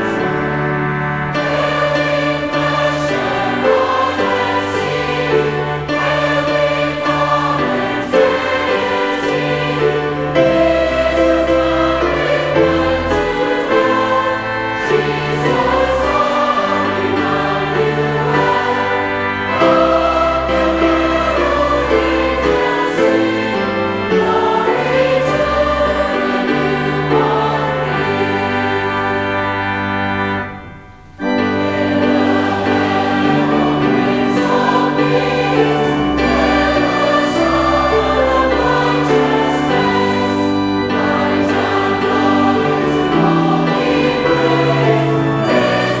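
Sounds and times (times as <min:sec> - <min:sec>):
choir singing a hymn: 0:00.0 - 0:46.0.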